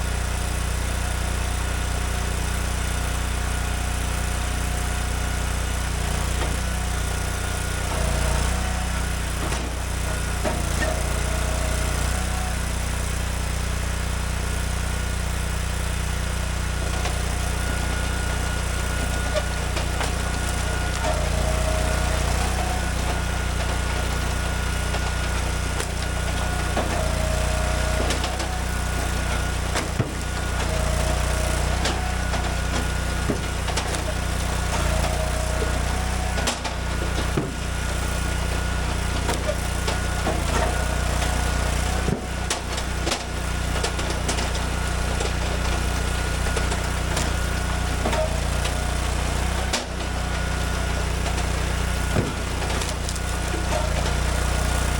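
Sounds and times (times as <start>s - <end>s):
log splitter gas engine running: 0.0s - 54.9s.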